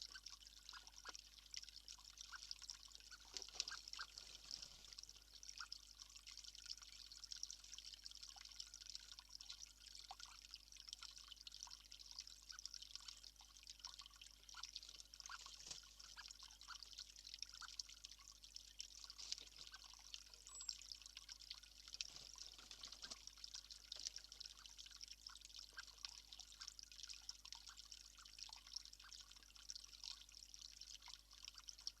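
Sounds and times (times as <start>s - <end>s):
faint water trickle: 0.0s - 32.0s
small water drips: 0.0s - 32.0s.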